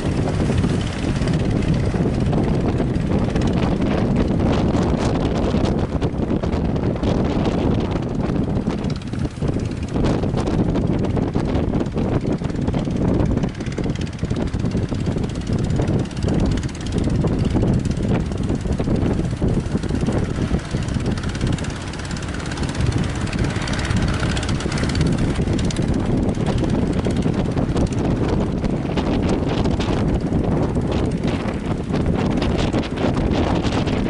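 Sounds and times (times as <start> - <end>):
strong wind buffeting microphone: 0.0 - 34.0.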